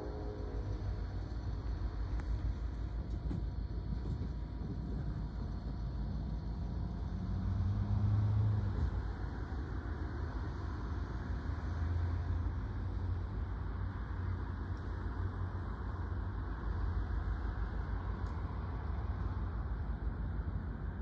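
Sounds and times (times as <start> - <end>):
diesel locomotive engine rumble: 0.0 - 21.0.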